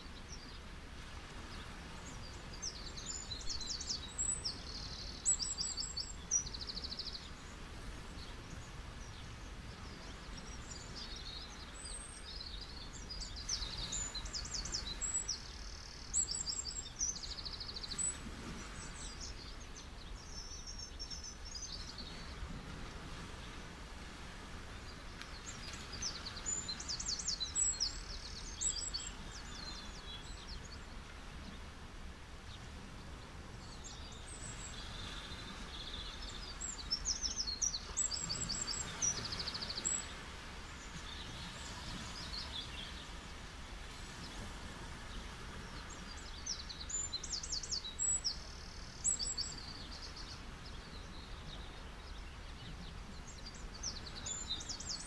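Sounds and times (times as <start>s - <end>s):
songbird chirping: 0.0s - 31.8s, 32.4s - 55.0s
sea waves on a beach: 0.0s - 55.0s.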